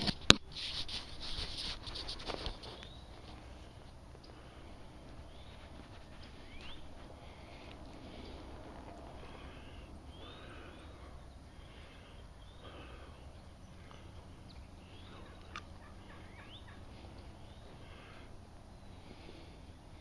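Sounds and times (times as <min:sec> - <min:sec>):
wild turkeys calling: 0:01.1 - 0:20.0.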